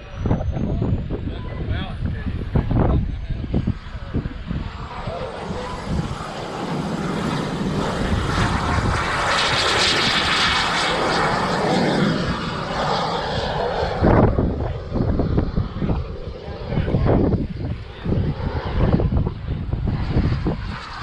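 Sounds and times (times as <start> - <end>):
model jet turbine flying past: 0.0 - 21.0.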